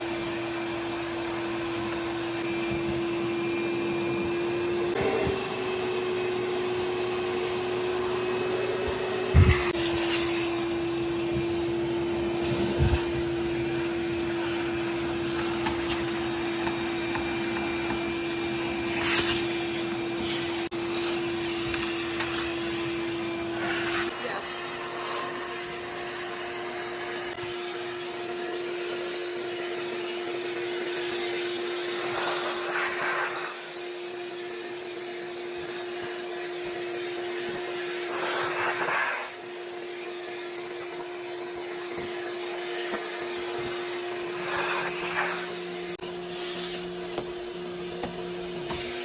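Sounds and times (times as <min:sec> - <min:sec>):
vacuum cleaner whining: 0:00.0 - 0:49.0.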